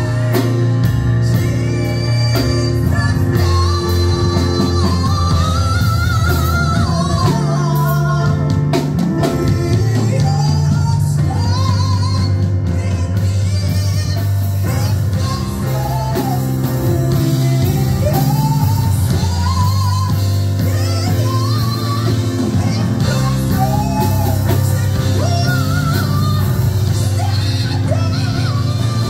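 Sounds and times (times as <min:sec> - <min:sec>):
instrumental backing: 0:00.0 - 0:29.0
woman singing into a microphone: 0:00.0 - 0:29.0.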